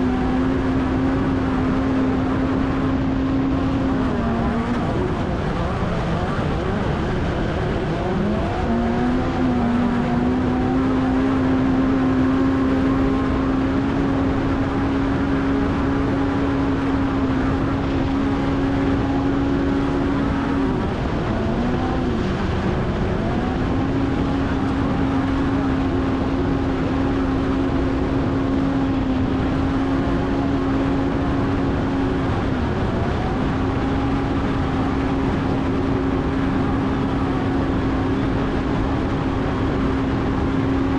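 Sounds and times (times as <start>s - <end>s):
race vehicle engine revving: 0.0s - 40.9s.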